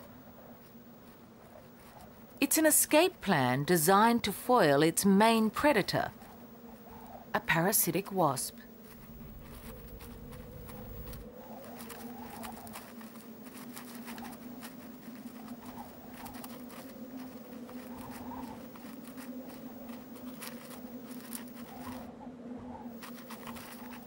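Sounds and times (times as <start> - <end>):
sand grains scratching and crackling: 0.0 - 22.1, 22.9 - 24.0
steady low hum: 0.0 - 24.0.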